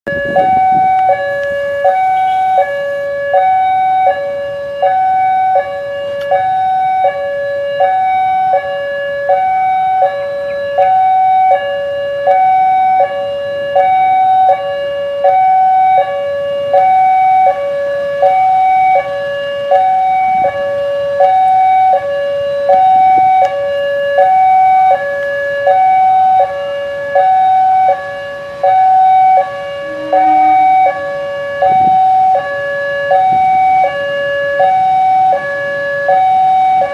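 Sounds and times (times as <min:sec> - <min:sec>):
level crossing alarm two-tone: 0:00.1 - 0:23.5, 0:25.6 - 0:36.9.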